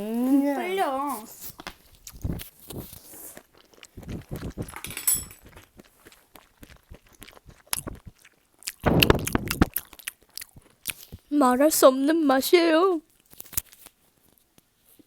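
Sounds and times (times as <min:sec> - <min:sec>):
close-up chewing: 0:00.0 - 0:11.3, 0:13.1 - 0:15.0.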